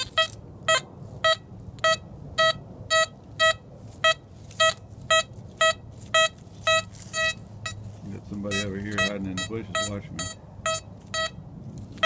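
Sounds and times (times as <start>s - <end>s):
metal detector high beeps: 0.0s - 7.8s, 8.5s - 11.4s.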